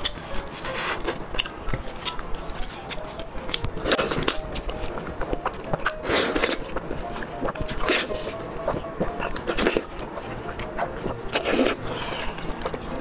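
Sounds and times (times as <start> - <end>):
person biting and chewing meat: 0.0 - 13.0.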